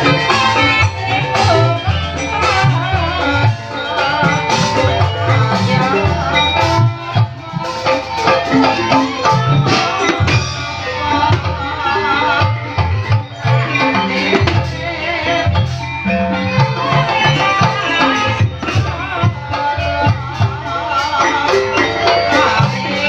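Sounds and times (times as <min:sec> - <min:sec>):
gamelan music: 0:00.0 - 0:23.0
hand drums beating: 0:00.0 - 0:23.0.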